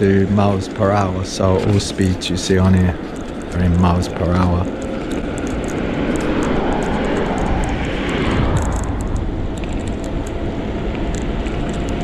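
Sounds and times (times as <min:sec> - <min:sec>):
tyres on road: 0:00.0 - 0:12.0
wind over microphone: 0:00.0 - 0:12.0.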